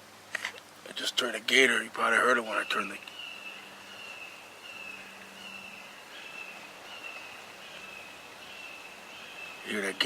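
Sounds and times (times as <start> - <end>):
background hiss: 0.0 - 10.0
insects droning chorus: 1.0 - 10.0.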